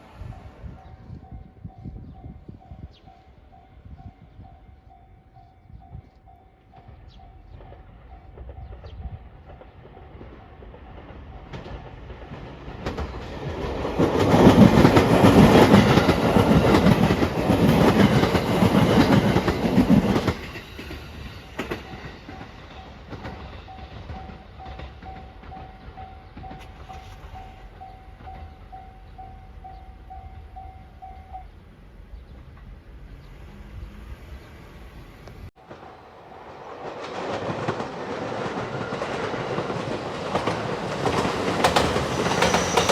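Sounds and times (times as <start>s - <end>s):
train passing: 0.0s - 42.9s.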